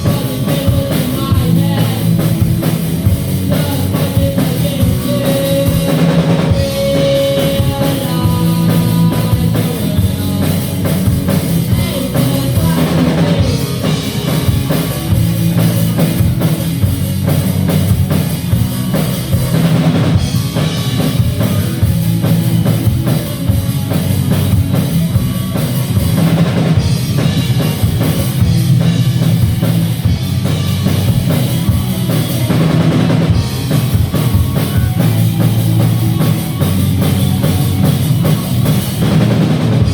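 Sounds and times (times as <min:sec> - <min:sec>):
bass: 0:00.0 - 0:39.9
drum kit: 0:00.0 - 0:39.9
electric guitar: 0:00.0 - 0:39.9.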